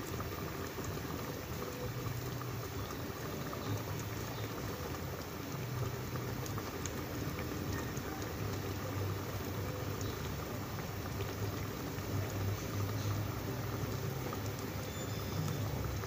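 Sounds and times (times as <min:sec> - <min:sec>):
food simmering and bubbling: 0:00.0 - 0:16.0.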